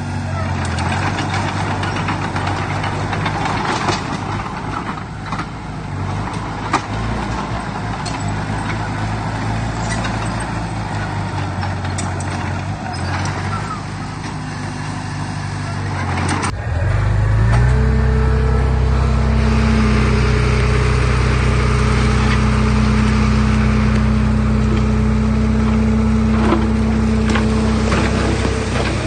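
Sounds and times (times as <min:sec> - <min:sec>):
heavy diesel engine revving: 0:00.0 - 0:29.0.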